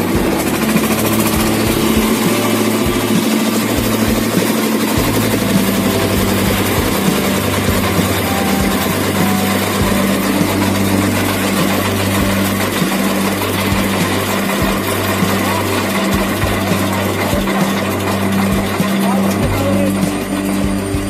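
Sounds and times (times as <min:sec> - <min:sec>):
concrete mixer humming: 0:00.0 - 0:21.0
knocks and clatter: 0:00.0 - 0:21.0.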